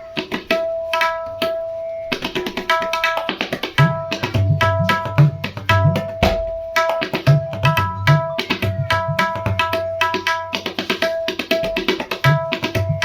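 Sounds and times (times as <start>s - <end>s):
tabla bass drum strokes: 0.0s - 13.0s
tabla treble drum ringing: 0.0s - 13.0s.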